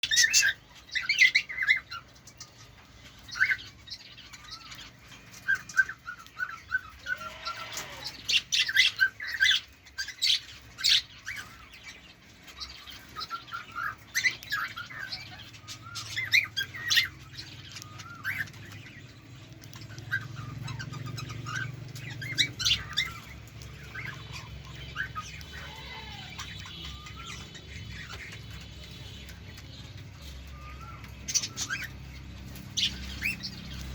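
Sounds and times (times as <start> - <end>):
bird chirping and squawking: 0.0 - 33.9.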